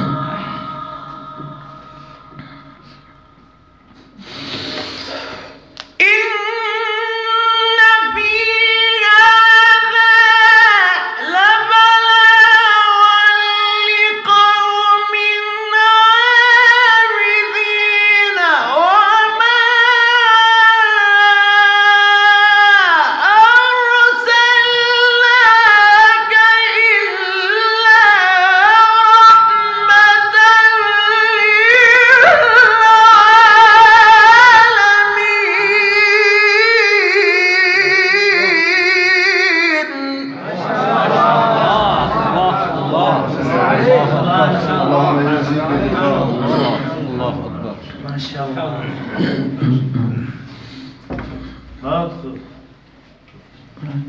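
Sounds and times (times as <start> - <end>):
man reciting melodically: 5.6 - 52.9.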